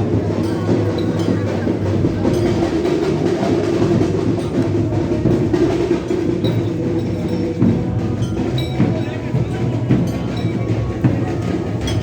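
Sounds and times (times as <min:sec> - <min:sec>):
music with drums and percussion: 0:00.0 - 0:12.0.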